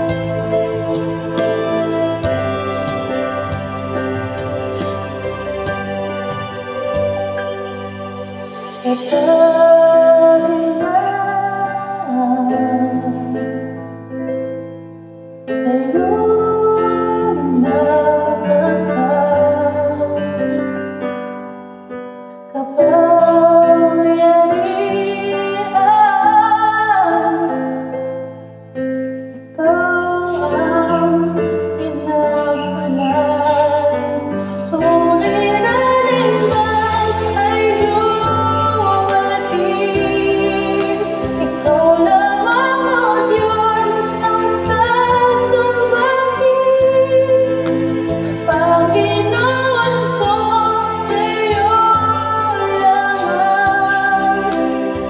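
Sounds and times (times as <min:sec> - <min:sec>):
keyboard chords backing track: 0:00.0 - 0:55.0.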